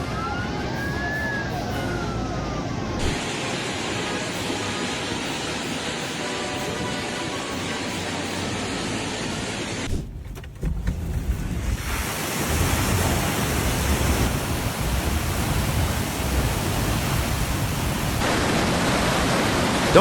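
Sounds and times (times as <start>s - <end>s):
surging water: 0.0s - 20.0s.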